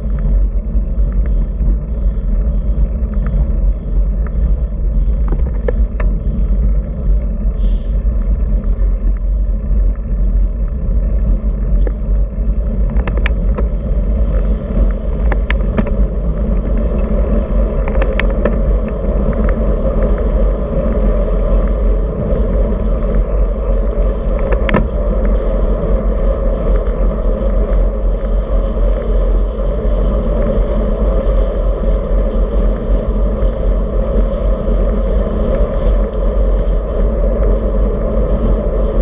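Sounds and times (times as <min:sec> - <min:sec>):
bike clicks: 0:00.0 - 0:39.0
tyres rumbling on asphalt: 0:00.0 - 0:39.0
wind buffeting microphone: 0:00.0 - 0:39.0.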